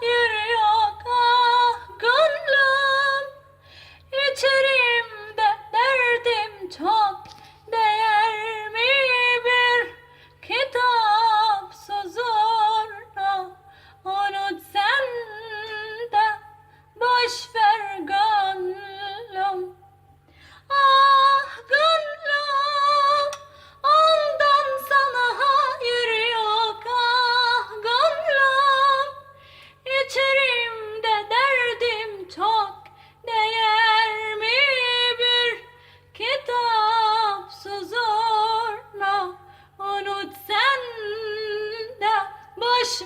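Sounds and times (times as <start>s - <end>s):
woman singing unaccompanied: 0.0s - 3.5s, 4.1s - 19.8s, 20.6s - 43.0s.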